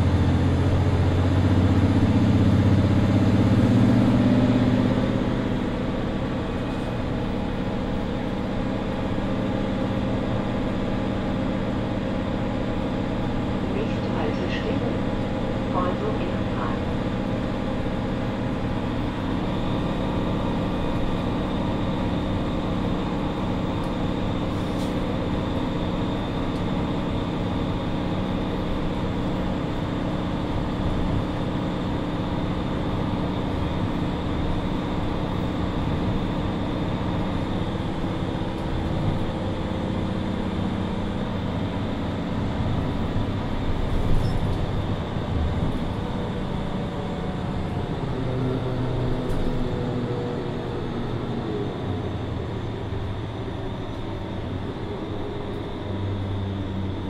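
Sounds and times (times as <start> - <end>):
bus engine hum: 0.0 - 57.0
road rumble: 0.0 - 57.0.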